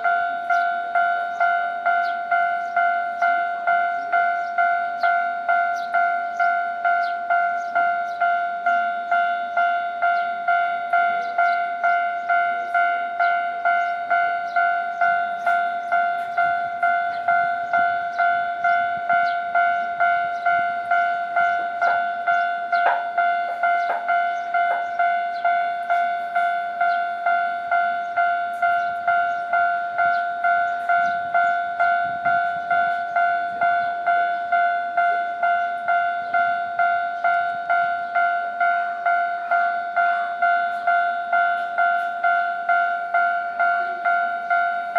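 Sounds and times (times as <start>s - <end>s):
level crossing bell ringing: 0.0s - 44.9s.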